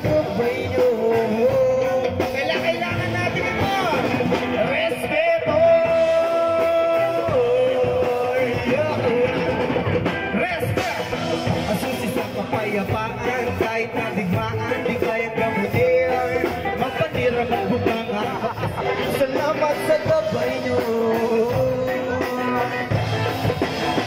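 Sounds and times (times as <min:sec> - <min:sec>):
drums: 0:00.0 - 0:24.0
electric bass: 0:00.0 - 0:24.0
electric guitar: 0:00.0 - 0:24.0
person singing: 0:00.0 - 0:24.0.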